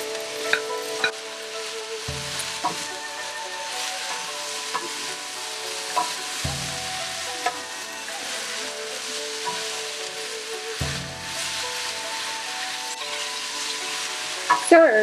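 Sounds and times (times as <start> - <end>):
food sizzling in a wok: 0.0 - 15.0
wooden spatula stirring: 0.0 - 15.0.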